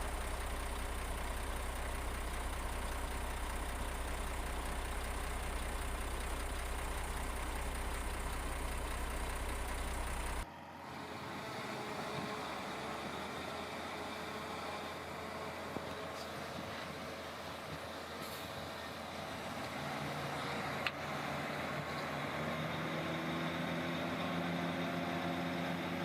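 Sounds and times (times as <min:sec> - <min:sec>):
heavy machinery engine humming: 0:00.0 - 0:26.0
quieter machine noise: 0:00.0 - 0:26.0.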